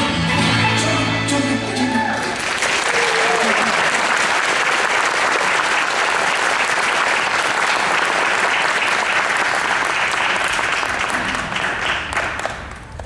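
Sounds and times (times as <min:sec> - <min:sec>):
audience applauding: 0:01.8 - 0:13.0.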